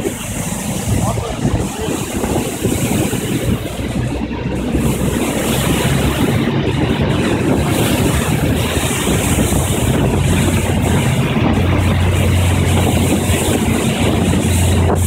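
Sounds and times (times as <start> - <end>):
boat engine humming: 0.0 - 15.0
rushing wake water: 0.0 - 15.0
wind buffeting microphone: 0.0 - 15.0.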